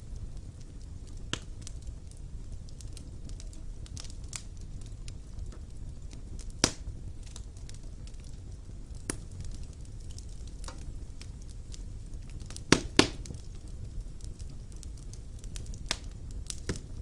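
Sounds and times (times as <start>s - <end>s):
fire burning in fireplace: 0.0s - 17.0s.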